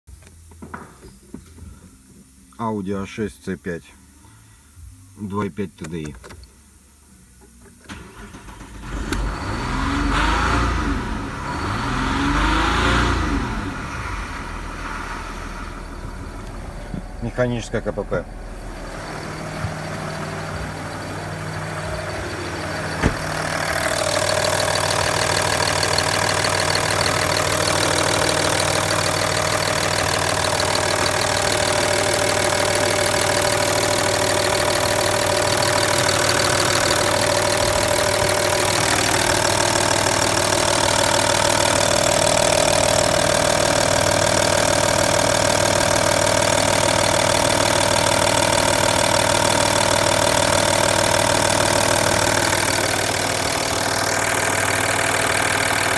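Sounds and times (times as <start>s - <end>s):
diesel engine idling: 10.6s - 55.9s.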